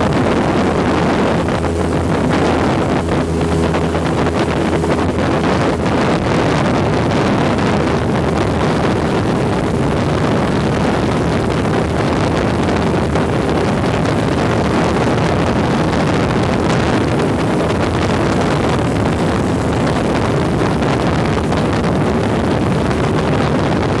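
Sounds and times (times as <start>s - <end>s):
airboat engine and propeller: 0.0s - 24.0s
wind buffeting microphone: 0.0s - 24.0s.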